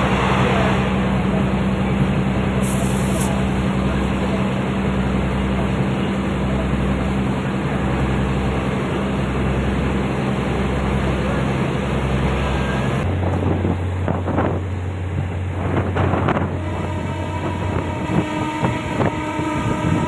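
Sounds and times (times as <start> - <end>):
diesel train engine running: 0.0 - 20.0.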